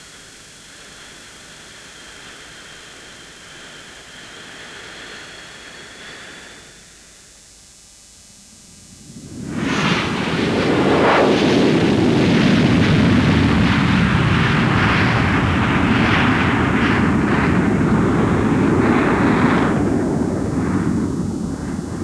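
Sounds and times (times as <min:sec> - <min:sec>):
jet engine roaring: 0:00.7 - 0:07.1, 0:08.4 - 0:22.0.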